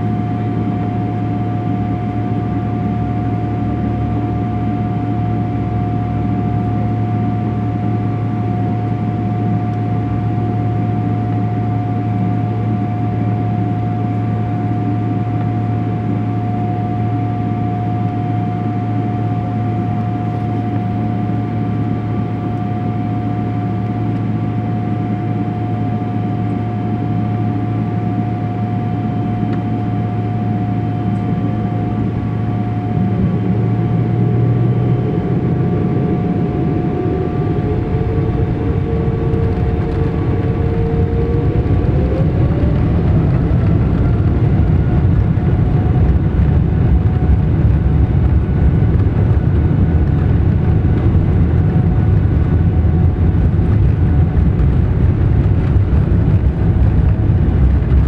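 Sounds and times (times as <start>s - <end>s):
jet engine low rumble: 0.0s - 58.0s
jet engine whine: 0.0s - 58.0s.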